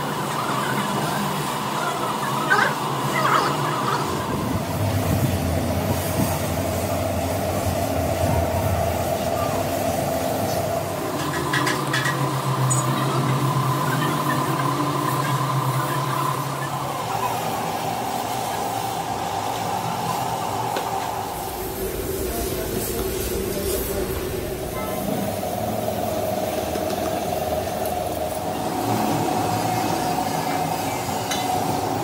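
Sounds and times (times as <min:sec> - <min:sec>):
machine drone: 0:00.0 - 0:32.0.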